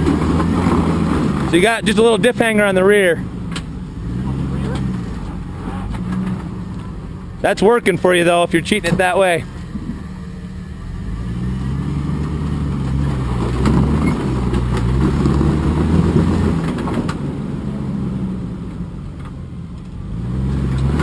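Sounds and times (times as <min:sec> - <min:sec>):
engine pulling under load: 0:00.0 - 0:21.0.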